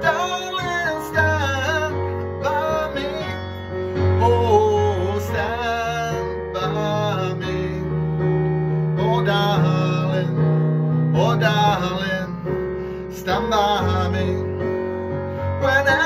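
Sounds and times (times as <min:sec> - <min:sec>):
man singing in deep voice: 0:00.0 - 0:16.0.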